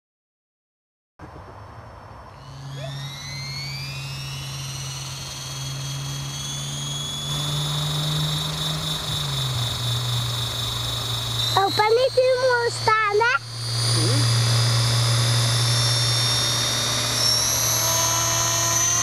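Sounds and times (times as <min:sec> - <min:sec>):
steady low hum: 0:01.2 - 0:19.0
helicopter motor whine: 0:02.1 - 0:19.0.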